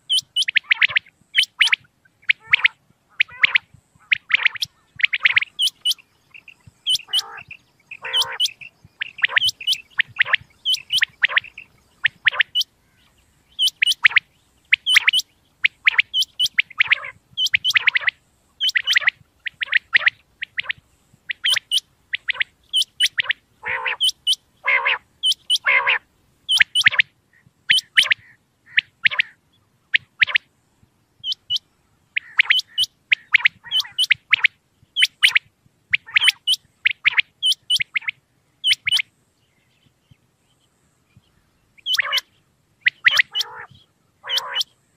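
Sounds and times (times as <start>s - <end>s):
quail calling: 0.0s - 30.5s, 31.2s - 39.1s, 41.8s - 44.8s.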